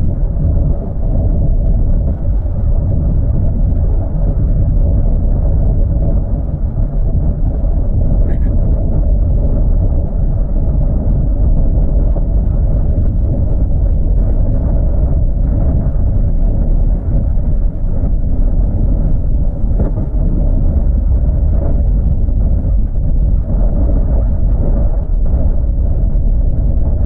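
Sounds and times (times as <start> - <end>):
vehicle engine and tyre rumble: 0.0 - 27.0.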